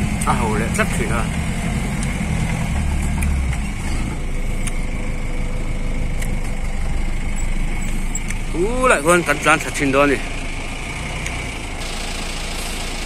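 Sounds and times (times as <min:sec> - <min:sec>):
engine running slowly: 0:00.0 - 0:13.0.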